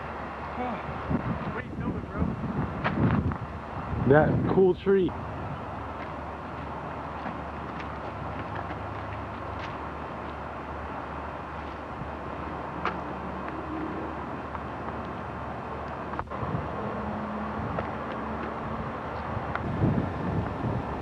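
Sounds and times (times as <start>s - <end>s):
wind rumble on microphone: 0.6s - 10.4s, 11.7s - 21.0s.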